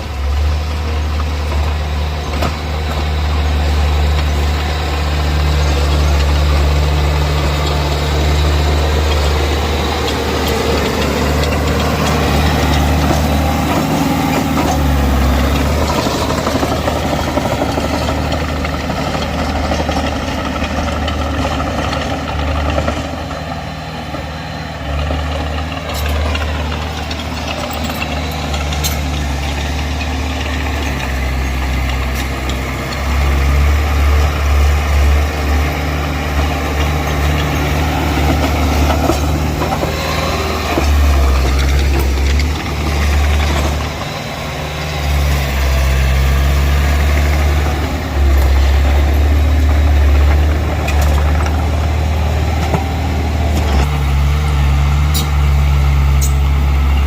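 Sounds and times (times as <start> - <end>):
heavy diesel machinery working: 0.0 - 57.0.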